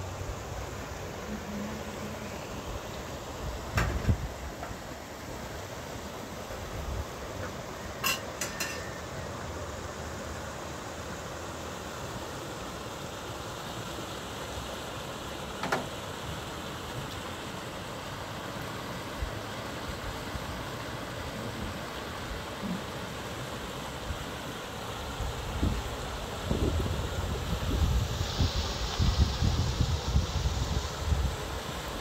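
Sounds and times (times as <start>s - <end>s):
wind with low rumble: 0.0s - 32.0s.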